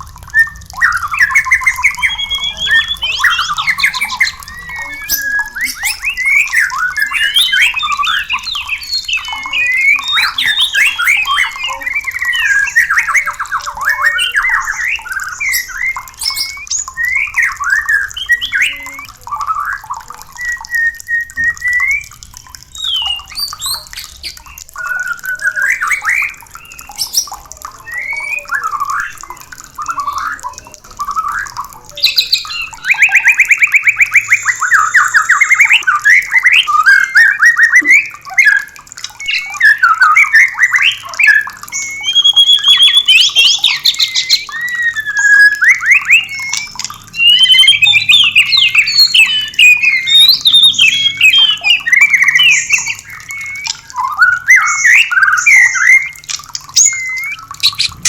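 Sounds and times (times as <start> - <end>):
bird singing whistles and chatter: 0.0 - 58.0.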